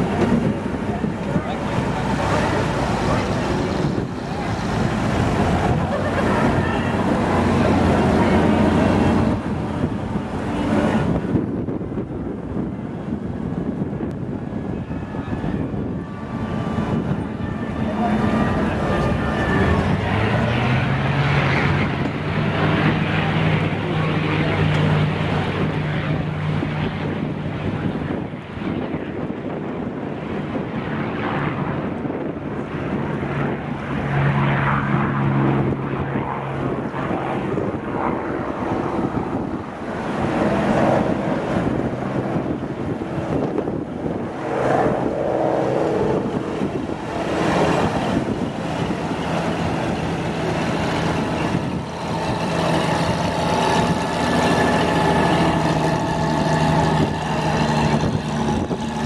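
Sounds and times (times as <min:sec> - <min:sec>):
propeller aircraft engines droning: 0:00.0 - 0:59.0.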